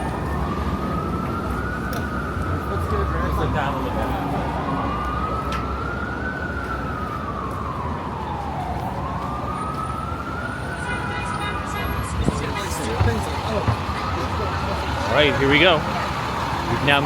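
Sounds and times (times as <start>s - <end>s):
emergency vehicle siren wailing: 0.0s - 17.0s
street traffic hum: 0.0s - 17.0s.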